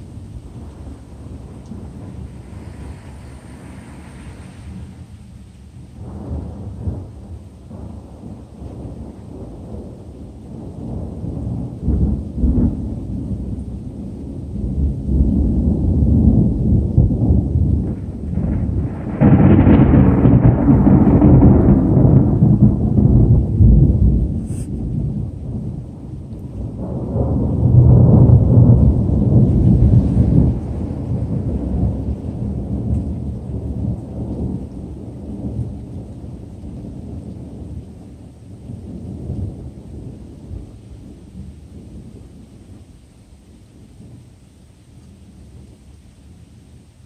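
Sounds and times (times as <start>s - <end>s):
thunder rumbling: 0.0s - 44.4s.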